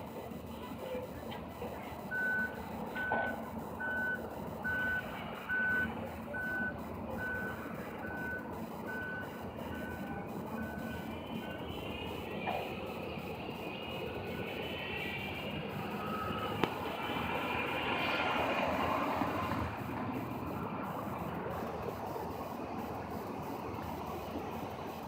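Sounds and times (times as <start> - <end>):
idling engines hum: 0.0 - 25.0
reversing alarm beeping: 0.0 - 25.0.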